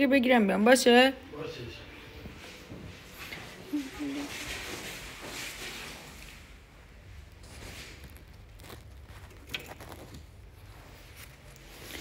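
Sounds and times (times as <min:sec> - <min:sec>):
faint rustling: 0:02.2 - 0:12.0.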